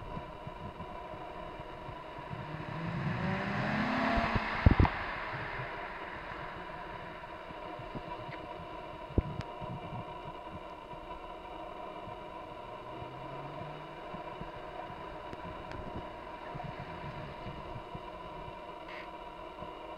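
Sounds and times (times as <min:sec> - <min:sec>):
car engine running low: 0:00.0 - 0:19.9
steady background hiss: 0:00.0 - 0:19.9.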